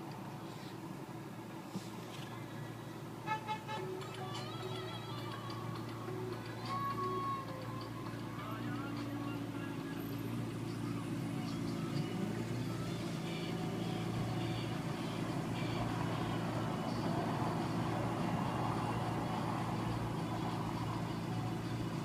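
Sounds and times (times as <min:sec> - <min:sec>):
car engine hum in cabin: 0:00.0 - 0:22.0.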